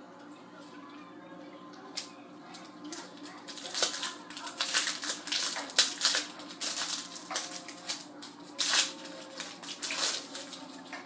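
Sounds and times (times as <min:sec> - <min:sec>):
pack wrapper rustling: 0:02.0 - 0:11.0
trading cards rustling: 0:02.0 - 0:11.0.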